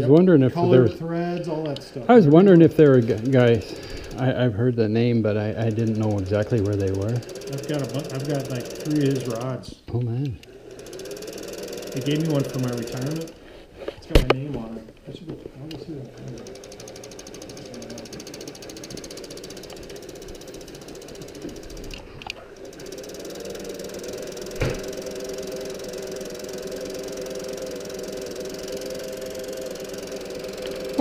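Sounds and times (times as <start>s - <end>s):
sewing machine motor humming: 0.0s - 9.7s, 10.4s - 31.0s.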